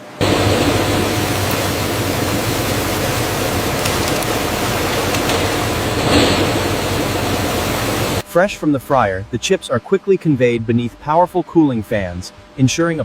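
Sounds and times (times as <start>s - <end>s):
machinery hiss and hum: 0.0s - 13.0s.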